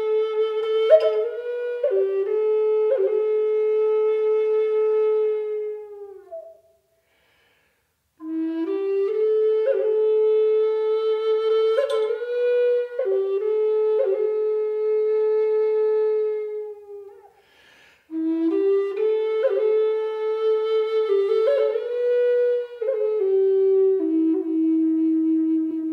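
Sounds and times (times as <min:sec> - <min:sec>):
slow solo flute melody: 0:00.0 - 0:07.3, 0:08.2 - 0:25.9.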